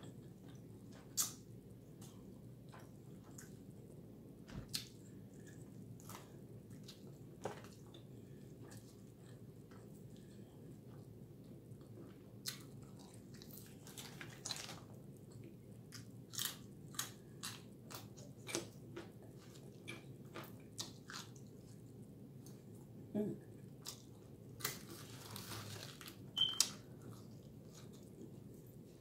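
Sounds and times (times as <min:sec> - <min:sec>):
person chewing and smacking: 0:00.0 - 0:03.9, 0:04.6 - 0:22.9, 0:23.5 - 0:28.8.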